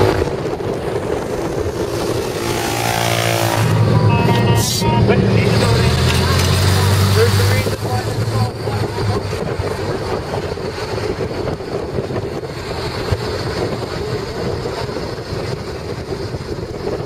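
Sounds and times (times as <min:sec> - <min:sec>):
moving vehicle noise: 0:00.0 - 0:17.0
wind on microphone: 0:00.0 - 0:17.0.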